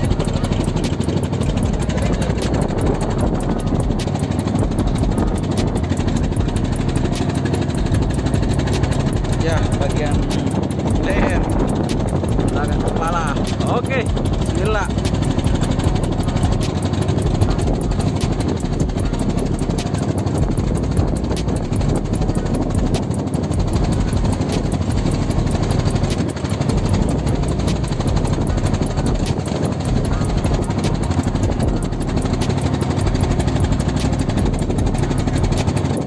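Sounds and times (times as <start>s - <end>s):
boat engine running: 0.0s - 36.0s
water rushing: 0.0s - 36.0s
wind: 0.0s - 36.0s.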